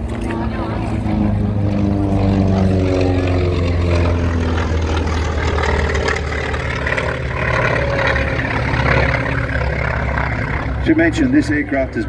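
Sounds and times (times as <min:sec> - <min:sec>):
aircraft radial engine rumble: 0:00.0 - 0:12.0.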